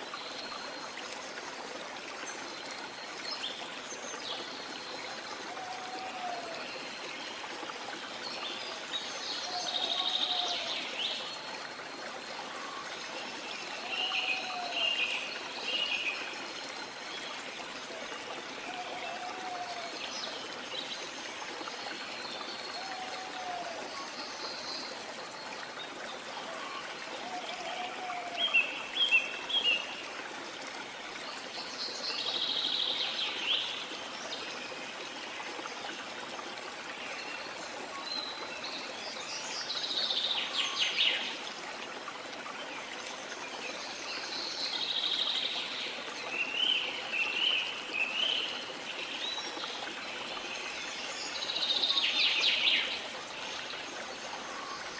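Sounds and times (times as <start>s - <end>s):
running water rushing: 0.0s - 54.9s.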